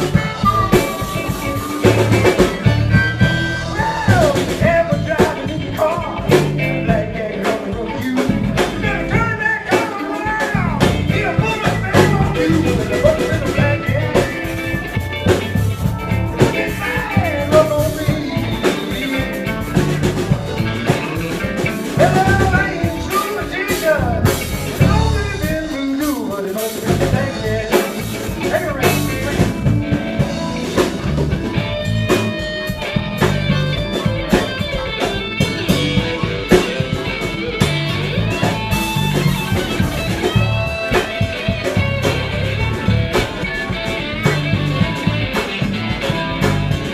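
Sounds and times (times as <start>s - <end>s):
bass guitar: 0.0s - 46.9s
drum kit: 0.0s - 46.9s
electric guitar lead: 0.0s - 46.9s.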